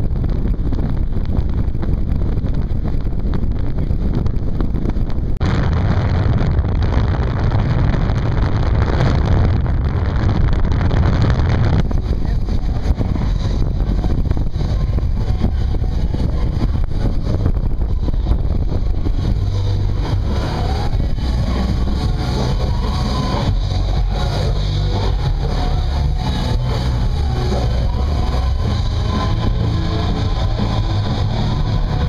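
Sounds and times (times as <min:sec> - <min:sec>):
wind noise on microphone: 0:00.0 - 0:32.0
car engine running: 0:02.6 - 0:32.0.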